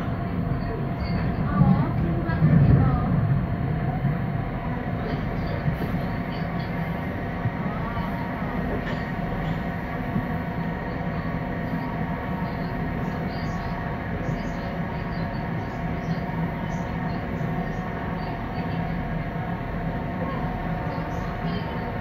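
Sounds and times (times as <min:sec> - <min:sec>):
train rumble and hum: 0:00.0 - 0:22.0.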